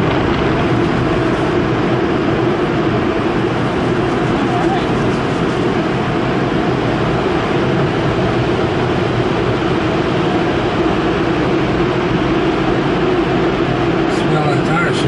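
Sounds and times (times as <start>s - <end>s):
air-dryer blowers rushing: 0.0s - 15.0s.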